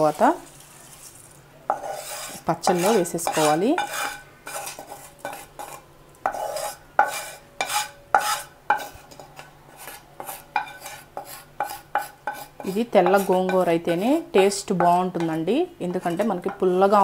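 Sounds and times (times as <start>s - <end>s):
utensil scraping a frying pan: 0.0s - 16.6s.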